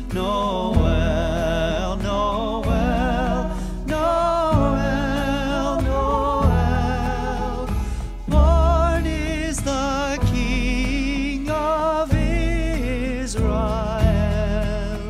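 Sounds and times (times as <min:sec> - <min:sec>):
christmas song with singing: 0:00.0 - 0:15.0.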